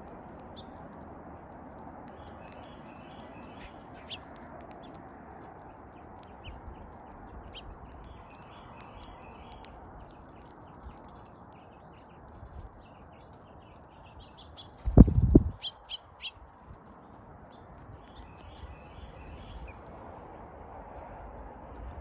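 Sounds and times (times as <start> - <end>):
beaks pecking seed: 0.0 - 22.0
outdoor background rush: 0.0 - 22.0
small birds chirping: 0.0 - 22.0.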